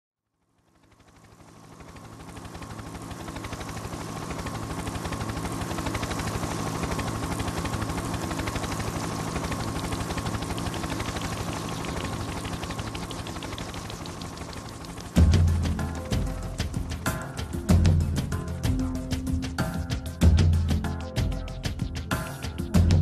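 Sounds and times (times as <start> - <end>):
pulsing electronic music: 2.2 - 23.0.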